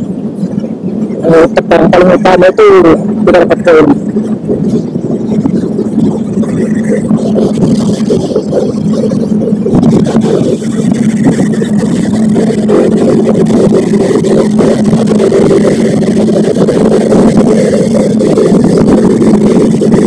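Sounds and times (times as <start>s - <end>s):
wind and road noise: 0.0s - 20.0s
motorcycle engine running: 3.0s - 20.0s.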